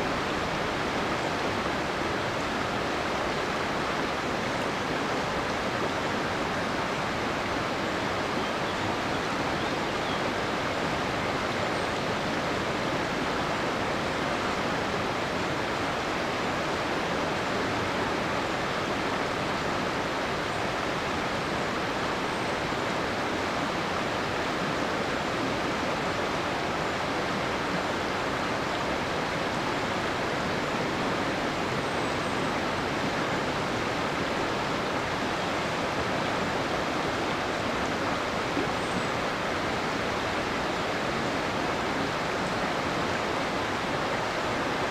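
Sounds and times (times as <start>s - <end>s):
river rushing over boulders: 0.0s - 44.9s.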